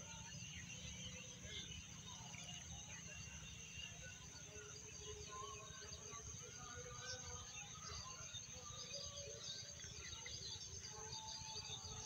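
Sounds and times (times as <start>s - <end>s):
faint bird chirps and calls: 0.0s - 12.0s.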